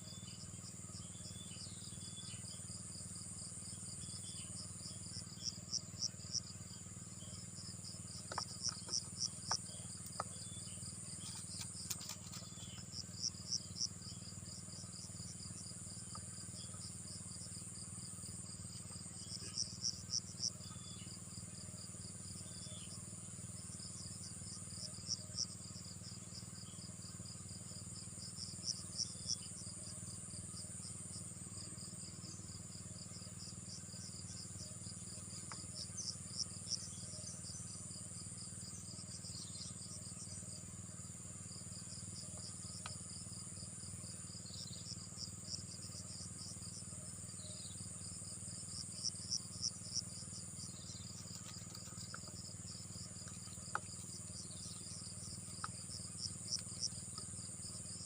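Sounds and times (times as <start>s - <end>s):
insect chirps in pulses: 0.0s - 58.0s
insects high-pitched drone: 0.0s - 58.0s.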